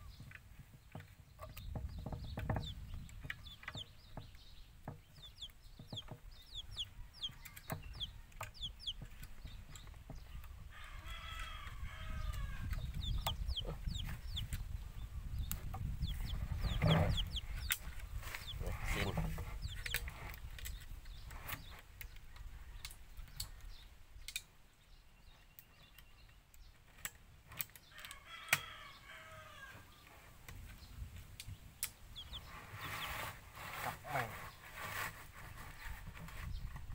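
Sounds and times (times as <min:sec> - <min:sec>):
chickens clucking: 0:00.0 - 0:23.9, 0:30.6 - 0:36.9
small birds chirping: 0:00.0 - 0:36.9.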